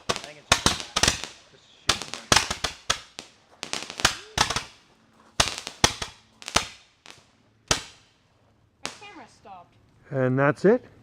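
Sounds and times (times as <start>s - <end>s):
fireworks bangs: 0.0s - 9.7s.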